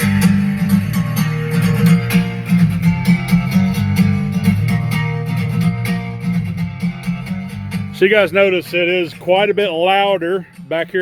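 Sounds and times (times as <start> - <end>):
music with strummed guitar and bass: 0.0 - 11.0.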